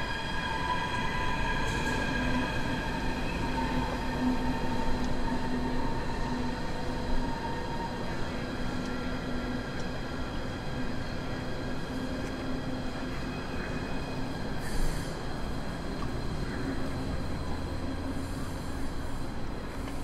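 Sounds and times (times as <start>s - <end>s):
hum of train motors: 0.0s - 20.0s
train rumble on elevated track: 0.0s - 20.0s.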